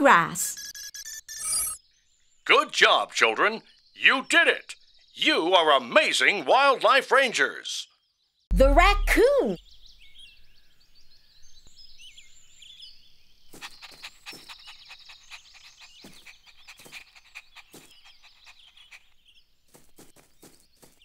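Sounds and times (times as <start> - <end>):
small birds chirping: 1.6 - 21.0.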